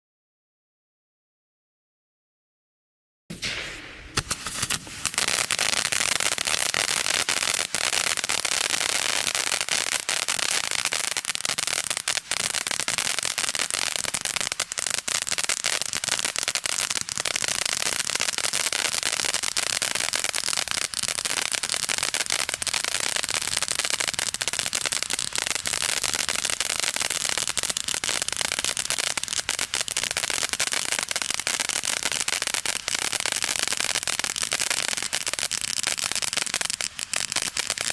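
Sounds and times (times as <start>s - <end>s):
firework fountain hissing and crackling: 3.3s - 37.9s.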